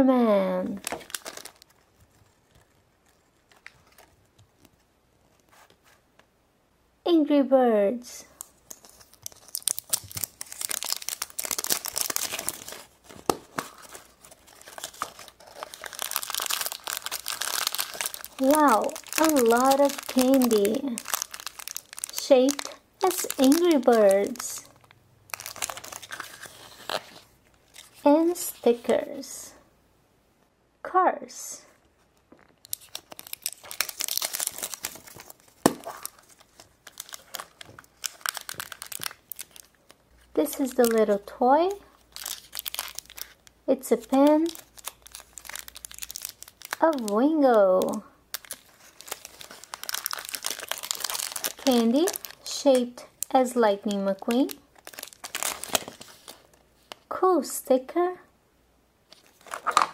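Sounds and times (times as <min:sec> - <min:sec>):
wrapper crinkling and tearing: 0:00.7 - 0:04.9, 0:08.4 - 0:28.9, 0:32.2 - 0:57.1, 0:59.1 - 0:59.9.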